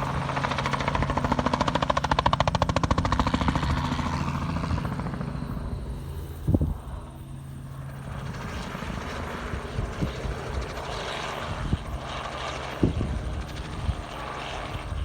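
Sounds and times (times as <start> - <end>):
helicopter rotor chop: 0.0 - 15.0.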